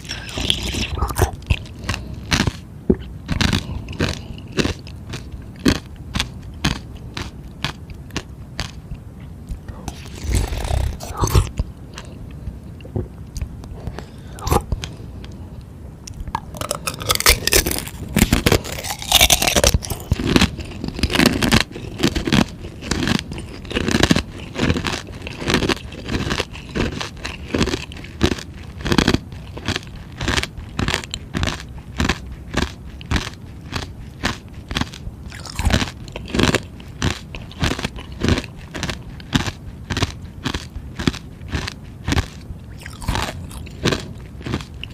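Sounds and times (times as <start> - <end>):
chewing crunches: 0.0 - 15.4, 16.0 - 44.9
crunching bites of ice treat: 3.3 - 8.8, 9.8 - 12.1, 16.3 - 44.9.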